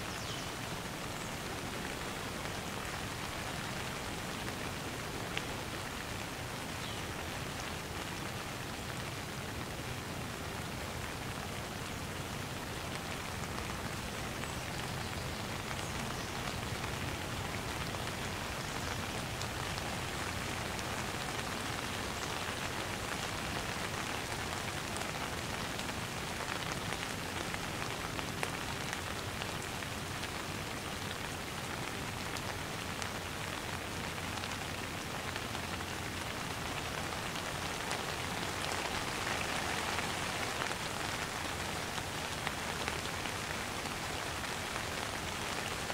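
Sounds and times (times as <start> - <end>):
light rain patter: 0.0 - 45.9.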